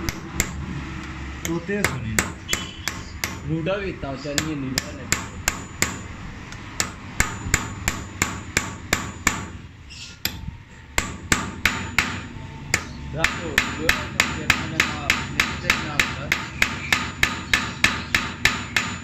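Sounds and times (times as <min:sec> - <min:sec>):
hammer blows: 0:00.0 - 0:19.0.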